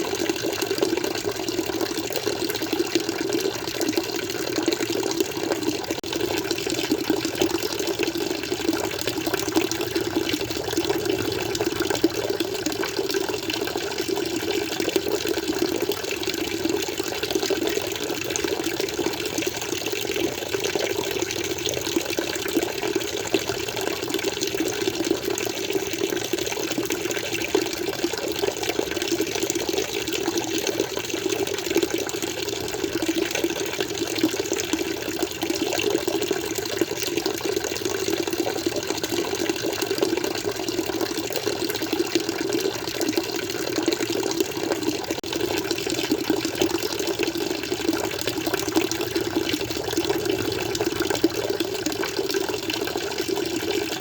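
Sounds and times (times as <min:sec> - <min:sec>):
water flowing and splashing: 0:00.0 - 0:54.0.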